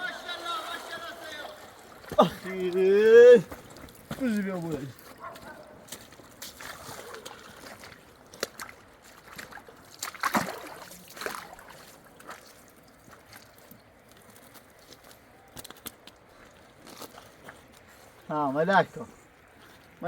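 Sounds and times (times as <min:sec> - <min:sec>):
river water sloshing: 0:00.0 - 0:18.3.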